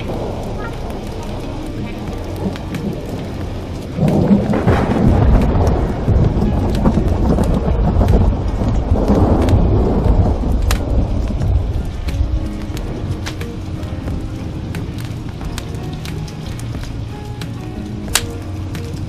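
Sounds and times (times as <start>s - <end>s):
fireplace crackles: 0.0s - 19.0s
heavy rain: 0.0s - 19.0s
thunder rumble: 0.0s - 19.0s.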